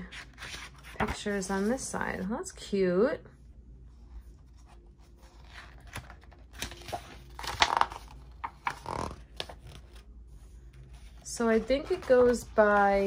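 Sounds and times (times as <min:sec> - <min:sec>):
book pages rustling and turning: 0:00.0 - 0:02.3, 0:03.9 - 0:13.0.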